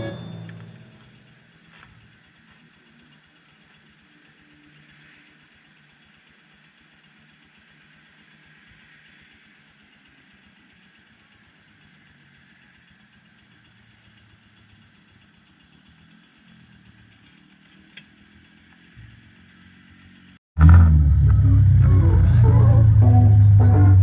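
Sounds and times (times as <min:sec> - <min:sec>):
engine idling faintly: 0:00.0 - 0:24.0.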